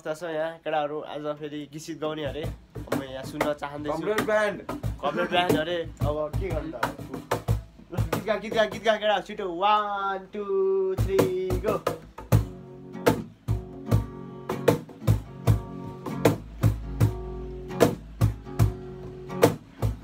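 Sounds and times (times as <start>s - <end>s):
acoustic guitar strumming: 2.2s - 9.3s, 10.7s - 20.0s.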